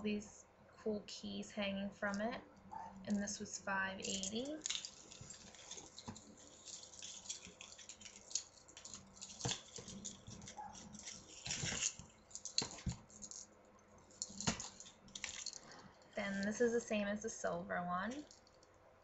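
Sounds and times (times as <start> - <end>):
jewelry rustling and clicking: 2.1 - 16.8, 18.1 - 18.8.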